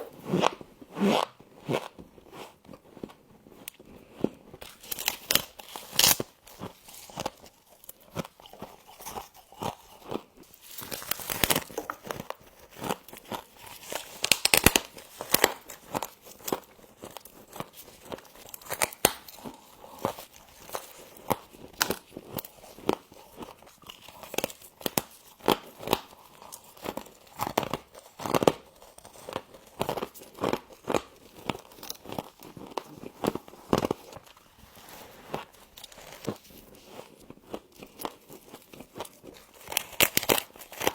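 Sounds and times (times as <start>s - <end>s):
crunching and chewing of frost: 0.0s - 40.9s.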